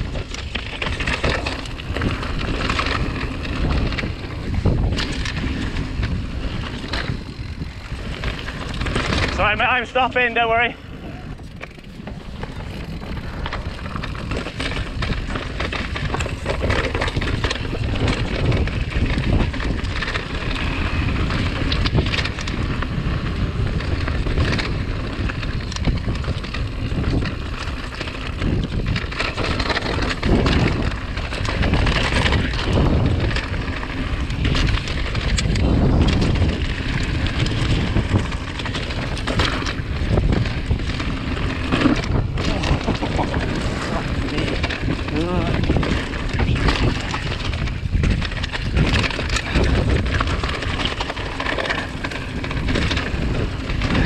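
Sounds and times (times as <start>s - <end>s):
bike rattling over bumps: 0.0s - 54.0s
bike tyres crunching on gravel: 0.0s - 54.0s
wind rumble on microphone: 0.0s - 54.0s.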